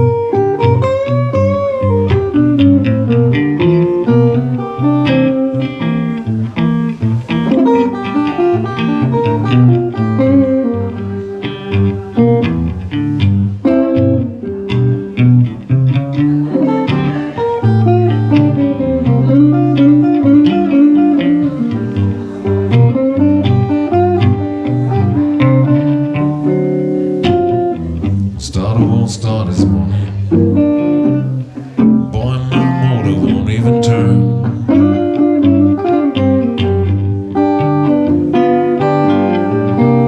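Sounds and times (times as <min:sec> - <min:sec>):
blues guitar playing: 0:00.0 - 0:40.0.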